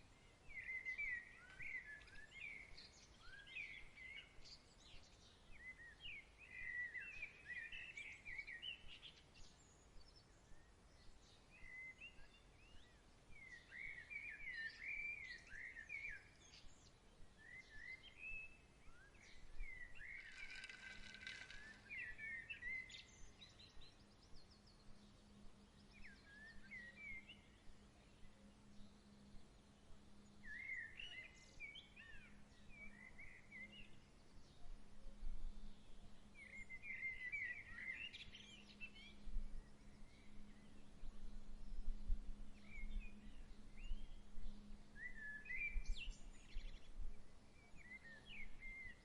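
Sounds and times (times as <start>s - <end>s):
birds chirping and trilling: 0.0s - 49.0s.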